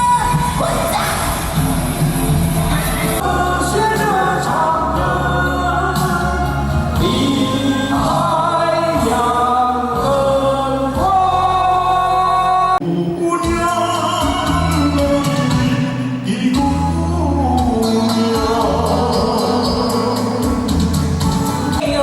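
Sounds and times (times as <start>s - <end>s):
instrumental backing music: 1.2s - 22.0s
several voices singing: 3.0s - 22.0s.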